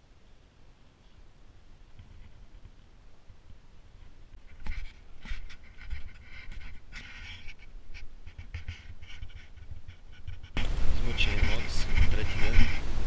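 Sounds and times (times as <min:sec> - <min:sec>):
wind rumble on microphone: 0:01.8 - 0:13.0.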